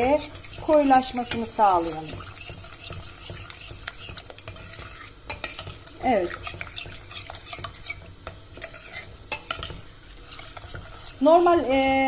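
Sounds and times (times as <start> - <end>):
spoon scraping against pot: 0.0 - 12.0
spoon stirring in steel pot: 0.0 - 12.0.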